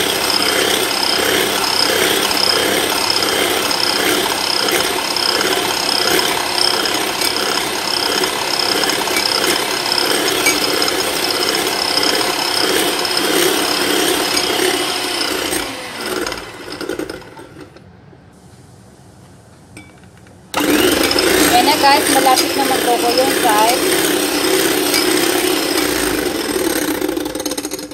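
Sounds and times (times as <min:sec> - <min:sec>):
electric hand mixer running: 0:00.0 - 0:17.7, 0:20.6 - 0:27.9
mixer motor winding down: 0:00.0 - 0:17.8, 0:20.5 - 0:27.9.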